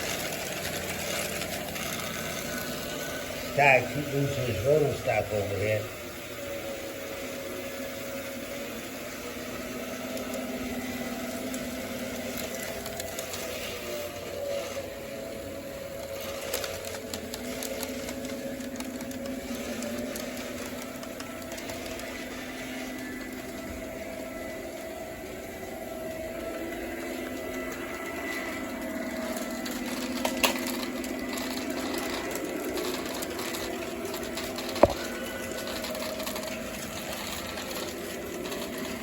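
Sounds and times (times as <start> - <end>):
model train motor hum: 0.0 - 39.0.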